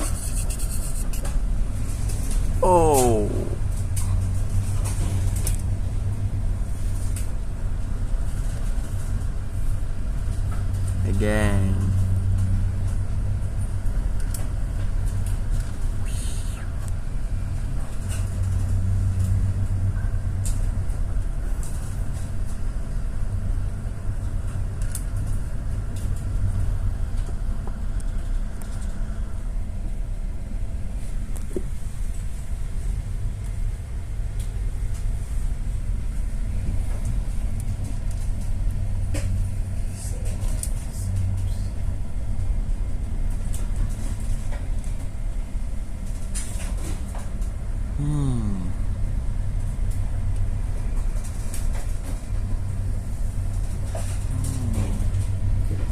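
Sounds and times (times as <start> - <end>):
boat engine rumbling hum: 0.0 - 55.9.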